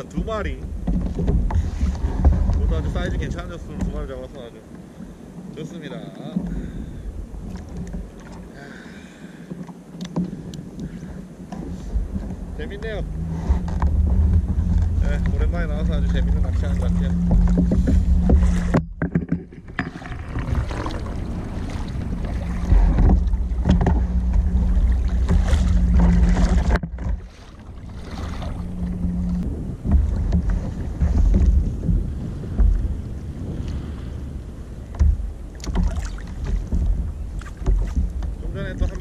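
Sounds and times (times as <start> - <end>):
wind buffeting microphone: 0.0 - 8.6, 9.5 - 39.0
water lapping against hull: 0.0 - 39.0.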